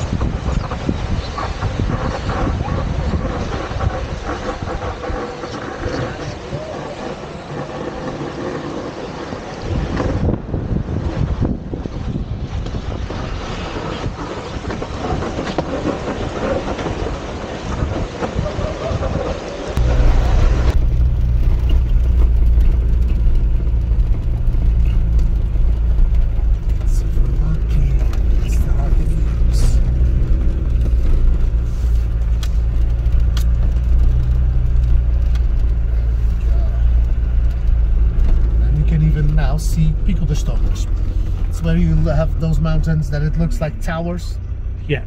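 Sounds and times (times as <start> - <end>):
toboggan scraping over road: 0.0 - 43.9.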